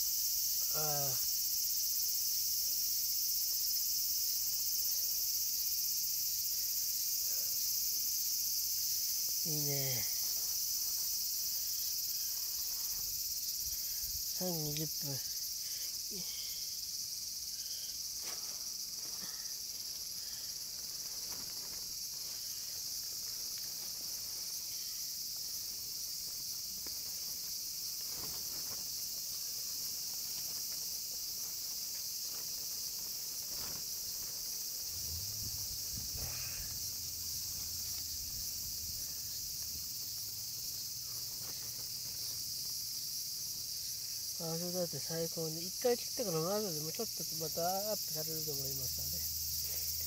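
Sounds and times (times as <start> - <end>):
insects chorus: 0.0 - 50.0.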